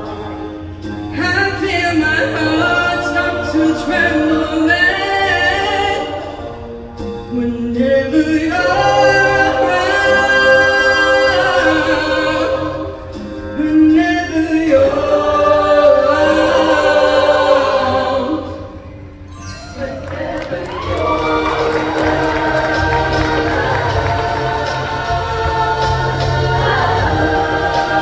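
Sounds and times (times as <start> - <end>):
choir singing held chords: 0.0 - 28.0.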